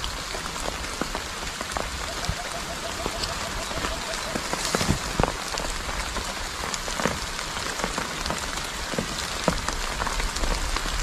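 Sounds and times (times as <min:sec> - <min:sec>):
rain pattering on leaves and grass: 0:00.0 - 0:11.0
loud raindrop tap: 0:00.6 - 0:11.0.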